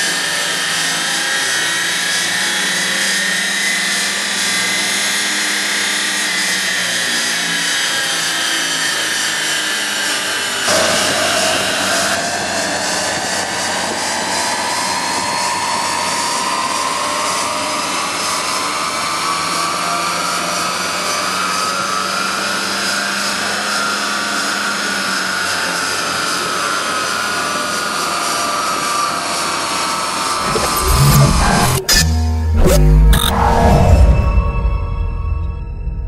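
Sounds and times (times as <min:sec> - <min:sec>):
car engine whine under load: 0:00.0 - 0:35.5.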